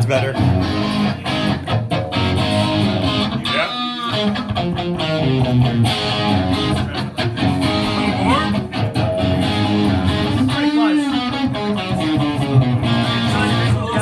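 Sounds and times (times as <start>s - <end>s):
electric guitar: 0.0s - 14.0s.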